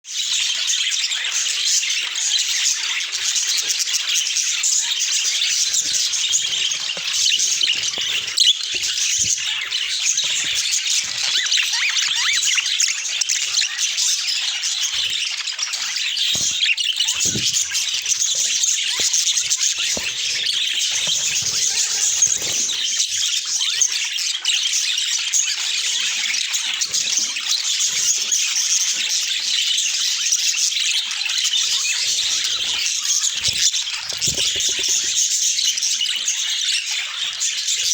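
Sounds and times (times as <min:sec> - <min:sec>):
budgerigars chattering and warbling: 0:00.1 - 0:37.9.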